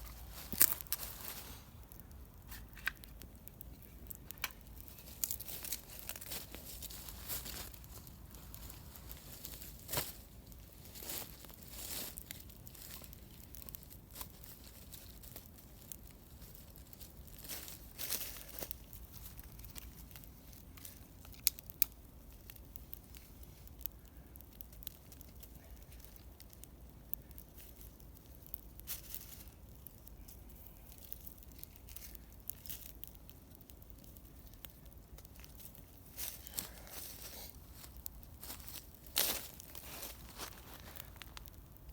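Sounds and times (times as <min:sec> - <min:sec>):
rustling: 0:00.0 - 0:03.1, 0:03.7 - 0:26.6, 0:27.3 - 0:41.7
campfire crackling and popping: 0:00.0 - 0:41.9.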